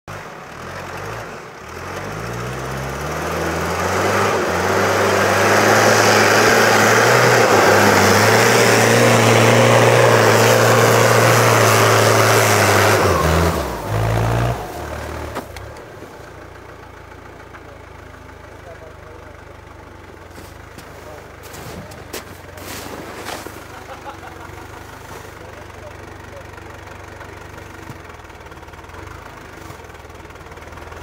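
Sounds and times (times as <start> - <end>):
off-road vehicle engine revving: 0.1 - 31.0.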